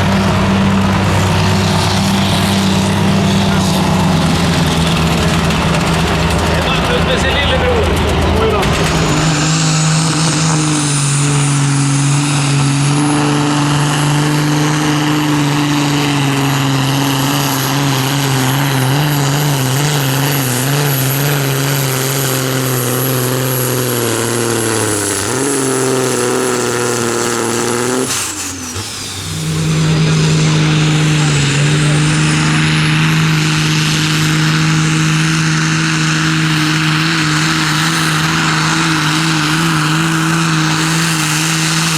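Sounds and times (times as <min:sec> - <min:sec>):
steady high whine: 0:00.0 - 0:12.8, 0:19.5 - 0:41.9
tractor engine running hard: 0:00.0 - 0:41.9.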